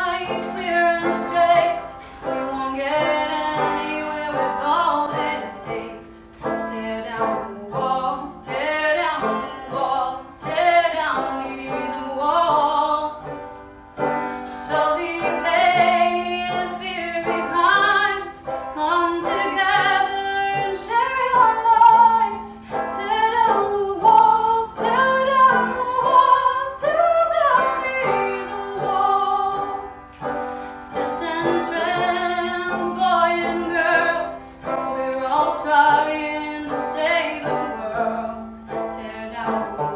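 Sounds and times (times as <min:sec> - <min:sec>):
woman singing: 0:00.0 - 0:13.6, 0:14.4 - 0:39.9
banjo: 0:00.0 - 0:39.9.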